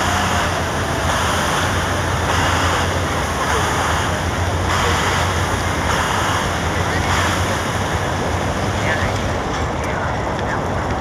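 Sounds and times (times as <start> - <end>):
fountain jets spraying: 0.0 - 11.0
low steady hum: 0.0 - 11.0.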